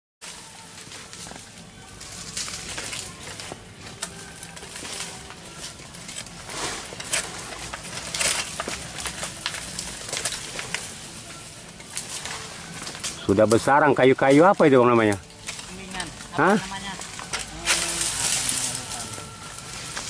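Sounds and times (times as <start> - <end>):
rustles and crackles: 0.2 - 20.0.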